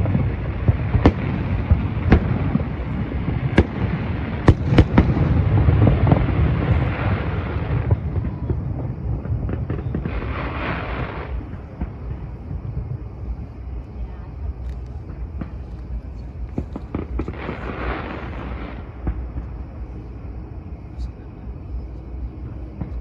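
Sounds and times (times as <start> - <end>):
fireworks bangs: 0.0 - 21.1, 21.7 - 23.0
fireworks crackles: 0.0 - 23.0
fireworks rolling rumble: 0.0 - 23.0.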